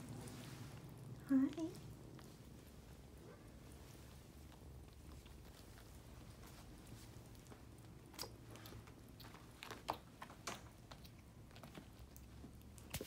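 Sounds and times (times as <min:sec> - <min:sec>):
kittens eating wet food: 0:00.0 - 0:13.0.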